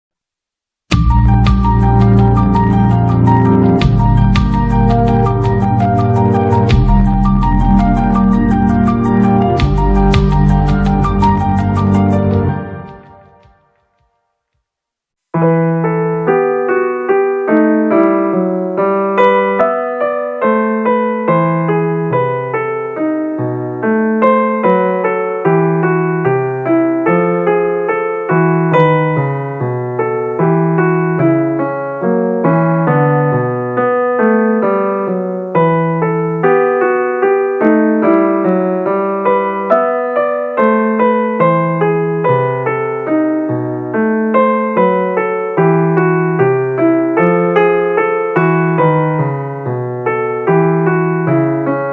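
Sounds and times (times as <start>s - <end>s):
piano background music: 0.9s - 14.3s, 15.4s - 51.9s.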